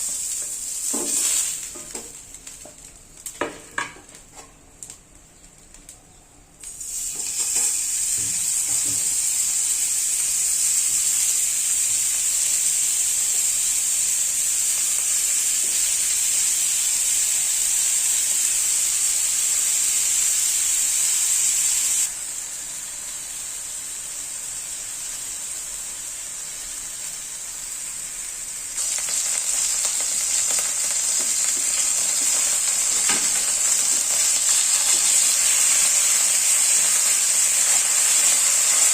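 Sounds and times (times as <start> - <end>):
burger patties sizzling in pan: 0.0 - 4.0, 6.7 - 38.9.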